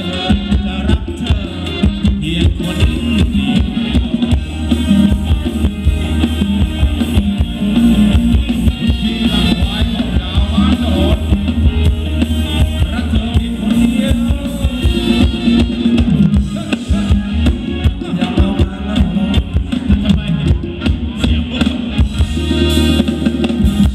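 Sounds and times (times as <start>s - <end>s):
drum kit beat: 0.0s - 23.9s
heavy bass line: 0.0s - 23.9s
person singing: 0.0s - 23.9s.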